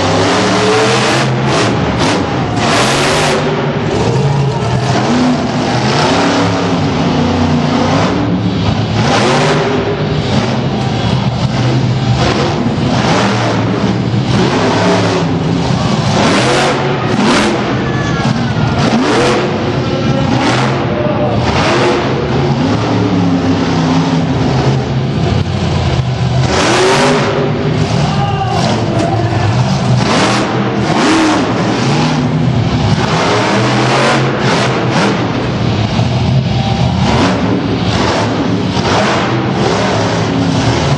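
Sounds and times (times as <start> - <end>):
monster truck engine revving: 0.0 - 40.9.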